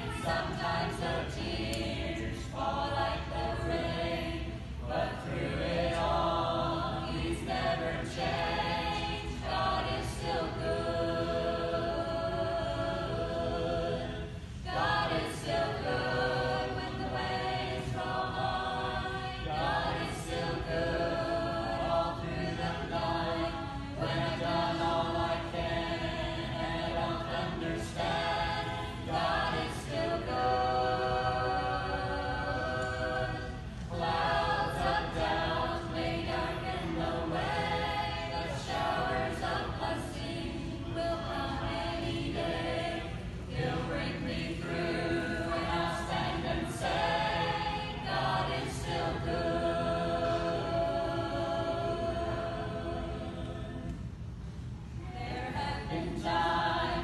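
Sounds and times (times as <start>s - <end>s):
group singing gospel song: 0.0s - 54.3s, 54.9s - 57.0s.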